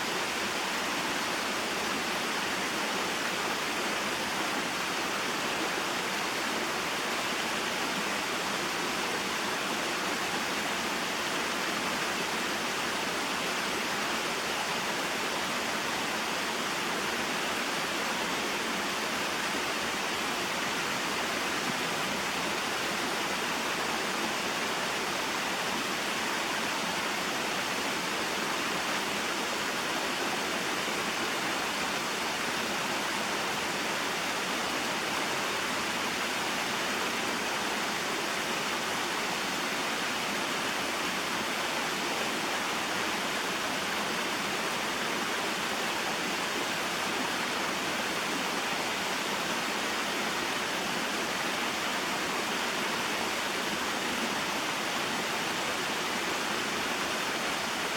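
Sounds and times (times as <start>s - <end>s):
stream flowing over rocks: 0.0s - 57.9s.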